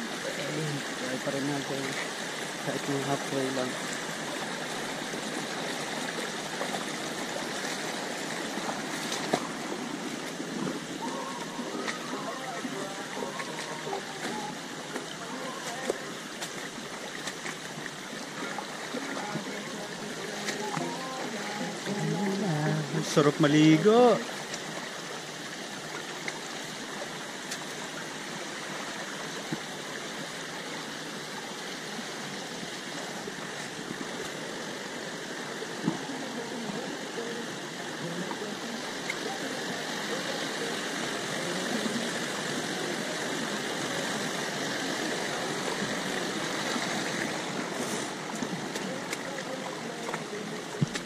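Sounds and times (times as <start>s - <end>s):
stream rushing over boulders: 0.0s - 51.0s.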